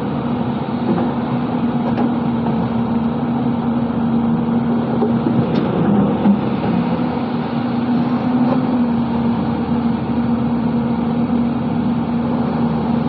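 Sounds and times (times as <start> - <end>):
excavator diesel engine humming: 0.0 - 13.0.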